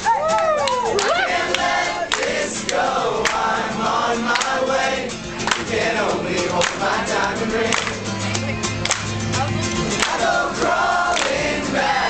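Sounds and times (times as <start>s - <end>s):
voices singing together: 0.9s - 8.6s, 9.8s - 12.0s.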